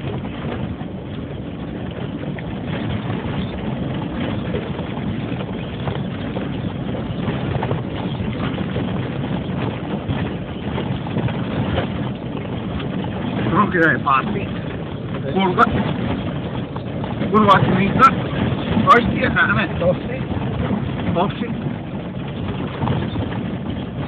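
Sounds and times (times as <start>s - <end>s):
car engine and road noise: 0.0s - 24.0s
vehicle rattling over bumps: 0.0s - 24.0s.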